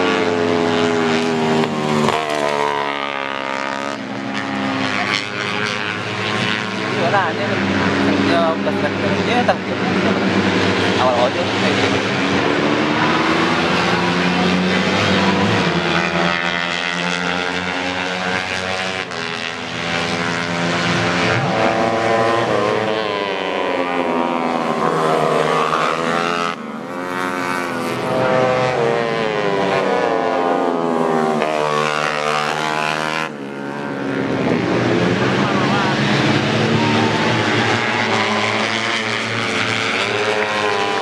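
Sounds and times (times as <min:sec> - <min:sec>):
racing motorcycles revving: 0:00.0 - 0:41.0.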